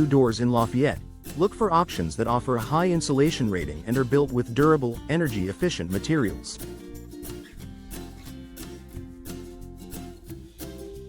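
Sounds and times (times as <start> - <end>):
background music with plucked guitar: 0.0 - 11.0.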